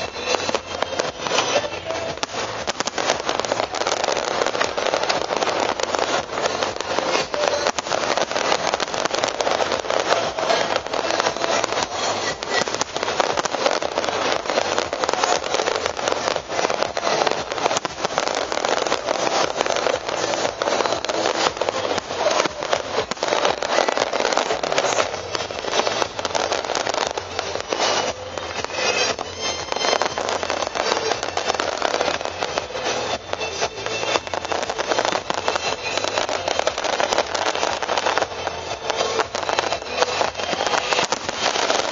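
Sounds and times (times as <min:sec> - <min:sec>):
fireworks crackling: 0:00.0 - 0:41.9.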